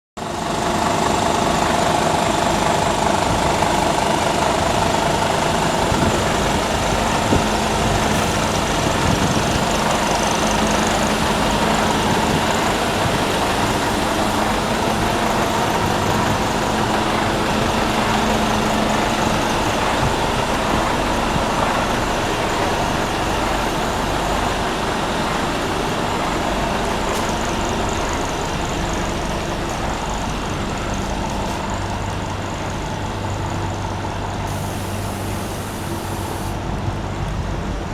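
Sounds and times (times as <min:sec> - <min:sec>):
diesel truck engine idling: 0:00.2 - 0:37.9.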